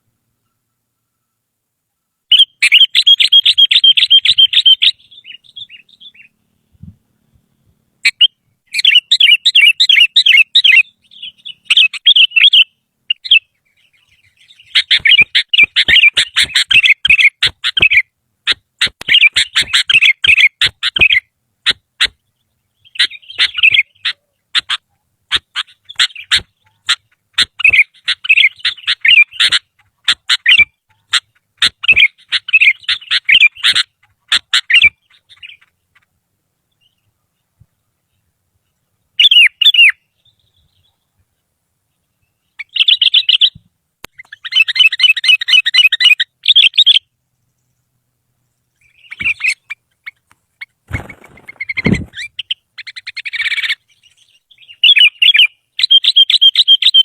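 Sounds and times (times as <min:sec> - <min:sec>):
bird warbling chirps: 0:02.3 - 0:06.5, 0:08.0 - 0:36.1, 0:39.2 - 0:41.2, 0:41.9 - 0:47.9, 0:48.6 - 0:57.0.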